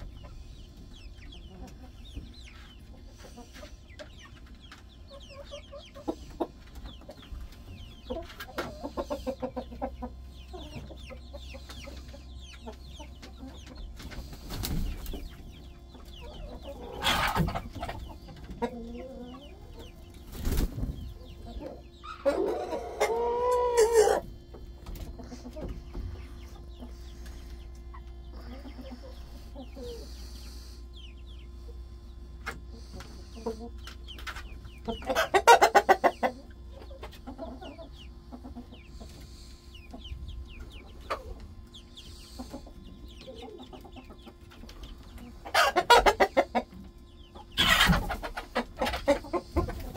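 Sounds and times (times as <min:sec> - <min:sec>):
hens clucking softly: 0:00.0 - 0:49.9.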